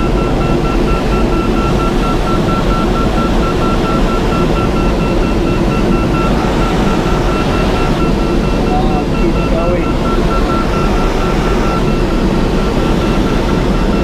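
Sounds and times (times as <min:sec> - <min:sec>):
rush of air over canopy: 0:00.0 - 0:14.0
variometer beeping: 0:00.0 - 0:14.0.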